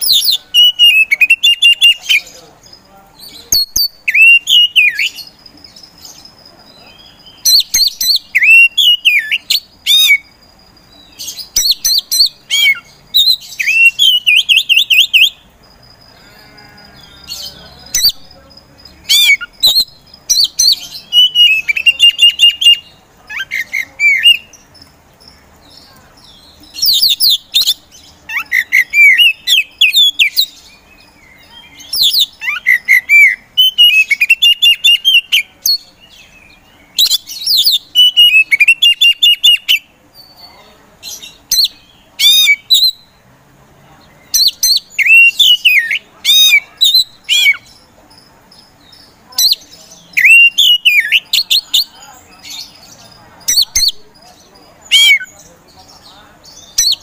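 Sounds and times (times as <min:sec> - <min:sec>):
bird singing whistled trills: 0:00.0 - 0:02.3, 0:03.3 - 0:15.4, 0:16.8 - 0:24.6, 0:25.8 - 0:40.5, 0:41.3 - 0:43.2, 0:44.2 - 0:47.8, 0:48.6 - 0:54.1, 0:56.5 - 0:57.0.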